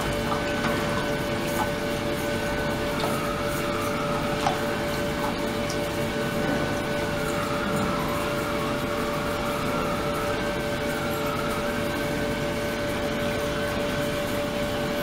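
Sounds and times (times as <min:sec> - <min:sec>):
constant hum tone: 0:00.0 - 0:15.0.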